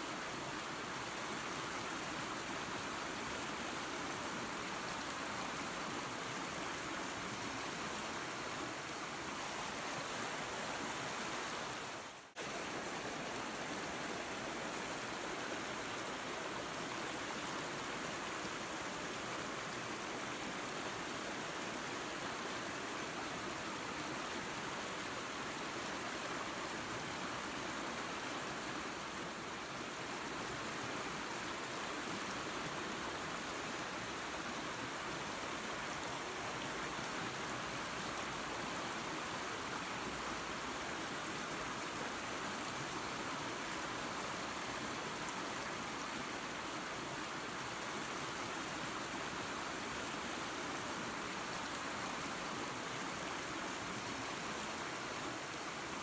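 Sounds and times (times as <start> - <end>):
waterfall and creek rushing: 0.0 - 56.0.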